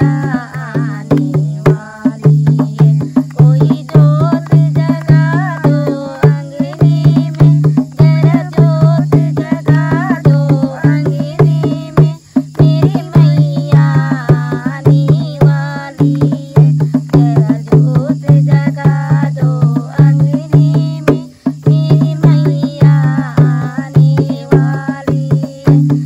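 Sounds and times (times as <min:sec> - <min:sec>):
barrel drum beat: 0:00.0 - 0:26.0
women singing together: 0:00.0 - 0:26.0.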